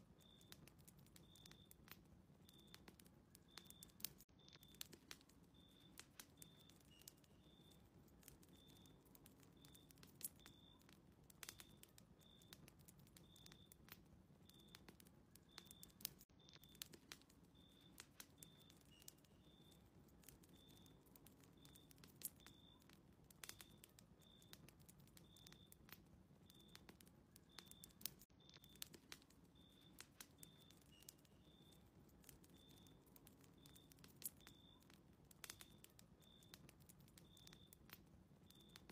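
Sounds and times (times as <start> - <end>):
faint fireplace crackling: 0.0 - 38.9.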